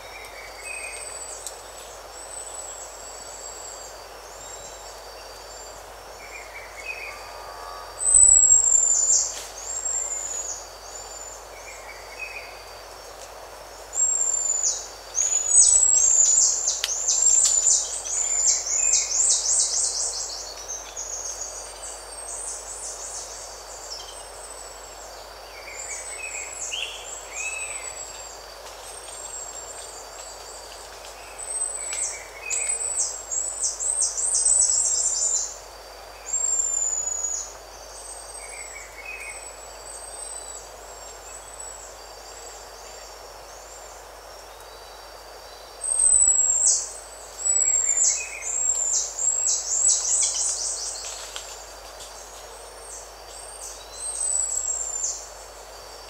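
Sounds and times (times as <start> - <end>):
thin insect whine: 0.0 - 56.0.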